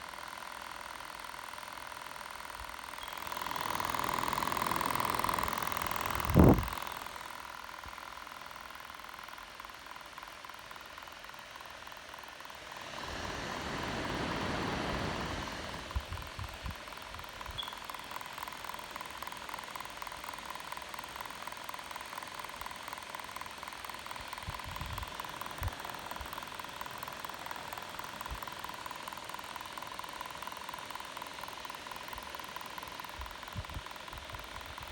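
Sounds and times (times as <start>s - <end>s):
fast clicking of fan: 0.0s - 34.9s
laptop fan whining: 0.0s - 34.9s.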